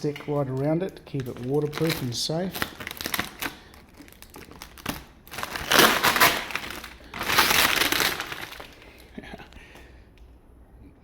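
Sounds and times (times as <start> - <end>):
plastic wrap crinkling: 0.0 - 9.2.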